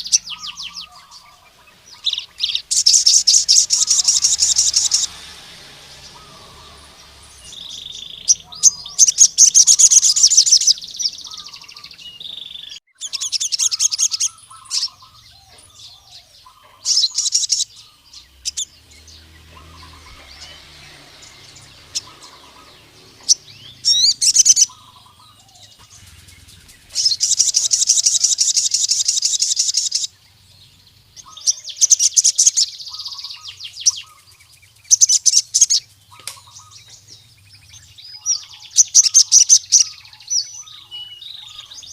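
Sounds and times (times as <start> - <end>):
bird singing high-pitched trills: 0.0 - 41.9.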